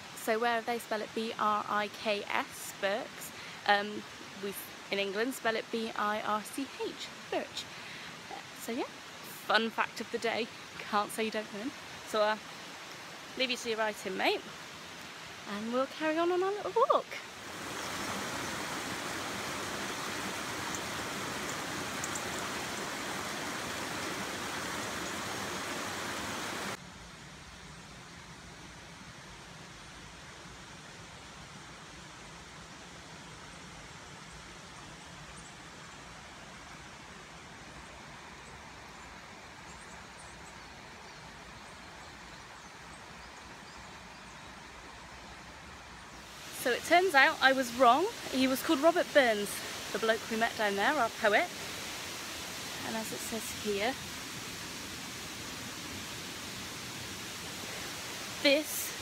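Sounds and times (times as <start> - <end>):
stream rushing over stones: 0.0 - 26.8, 30.1 - 59.0.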